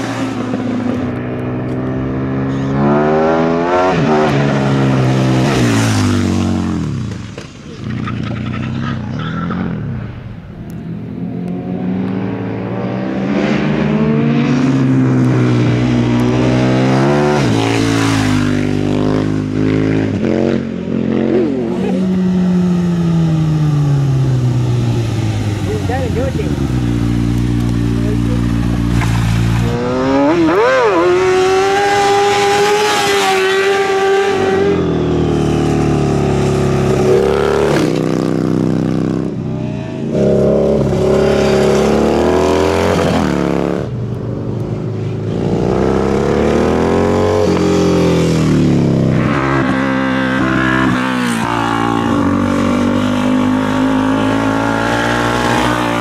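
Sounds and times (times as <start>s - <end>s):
motorcycles accelerating: 0.0s - 56.0s.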